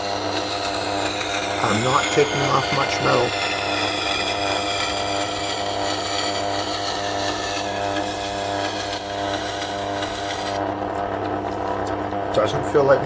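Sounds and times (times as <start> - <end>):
knife grinding hiss on stone: 0.0 - 10.6
sharpening machine motor hum: 0.0 - 13.0.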